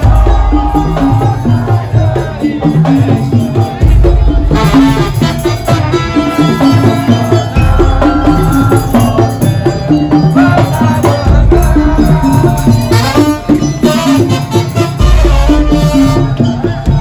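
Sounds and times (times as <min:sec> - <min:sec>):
drums: 0:00.0 - 0:17.0
percussion ensemble music: 0:00.0 - 0:17.0.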